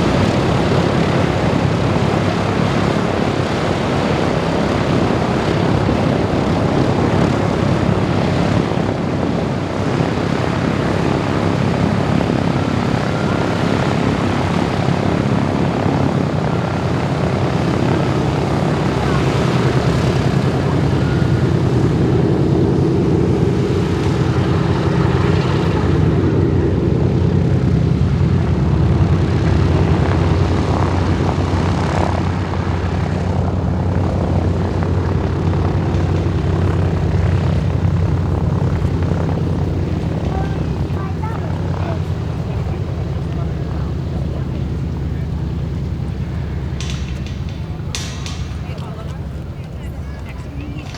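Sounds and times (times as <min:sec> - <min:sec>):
aircraft radial engines running: 0:00.0 - 0:50.9.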